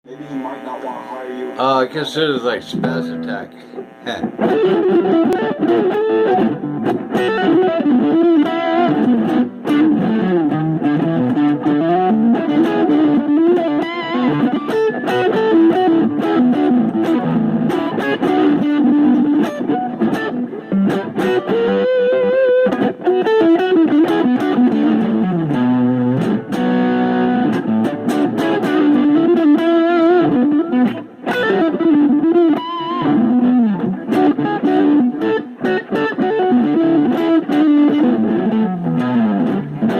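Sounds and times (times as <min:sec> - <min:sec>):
distorted electric guitar melody: 0:00.0 - 0:39.9.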